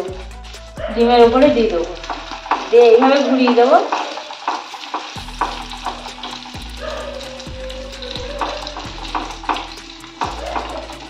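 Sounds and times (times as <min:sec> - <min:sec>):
background music with steady beat: 0:00.0 - 0:11.0
egg sizzling in frying pan: 0:00.0 - 0:11.0.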